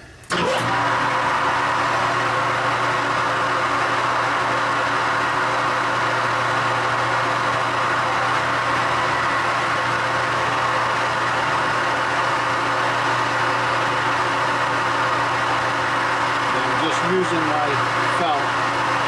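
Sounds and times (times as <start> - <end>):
machine spindle hum: 0.0 - 19.0.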